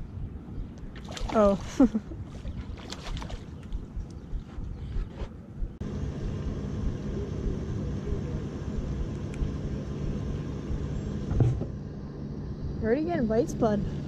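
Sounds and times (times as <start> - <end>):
outboard motor humming: 1.0 - 14.0.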